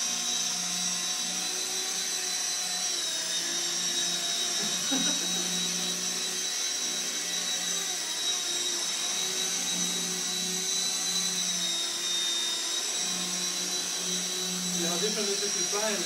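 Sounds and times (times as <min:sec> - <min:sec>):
helicopter motor high whine: 0:00.0 - 0:16.0
helicopter rotor hum: 0:00.0 - 0:16.0.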